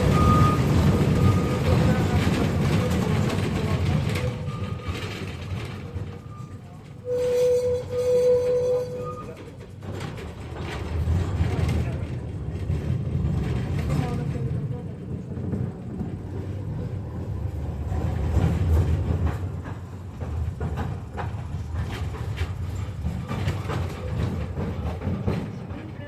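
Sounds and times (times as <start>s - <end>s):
tram rumbling along track: 0.0s - 26.0s.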